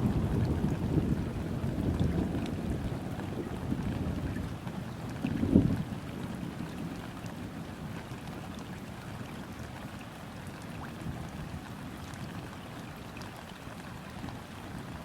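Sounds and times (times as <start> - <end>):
continuous low rumble: 0.0 - 15.0
rain falling on river: 0.0 - 15.0.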